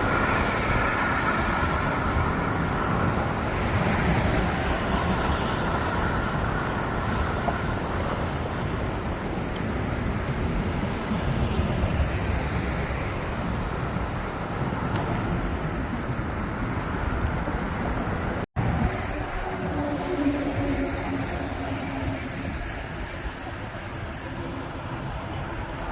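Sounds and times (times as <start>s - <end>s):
highway traffic noise: 0.0s - 25.9s.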